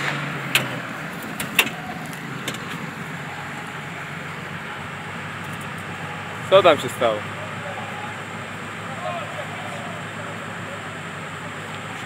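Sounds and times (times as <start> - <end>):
engine humming: 0.0 - 12.0
outdoor noise: 0.0 - 12.0.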